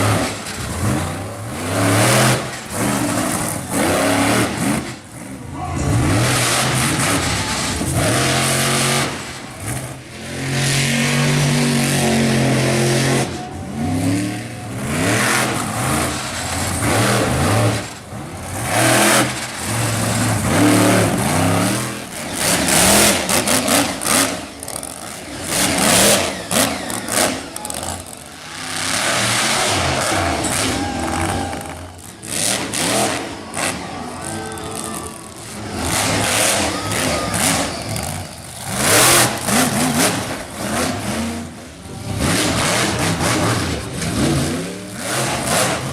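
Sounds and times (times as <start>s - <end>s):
monster truck engine revving: 0.0s - 45.9s.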